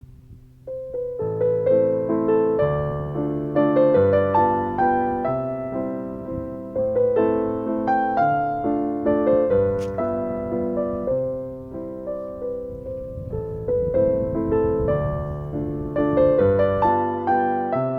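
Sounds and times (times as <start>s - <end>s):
calm piano music: 0.0s - 17.9s.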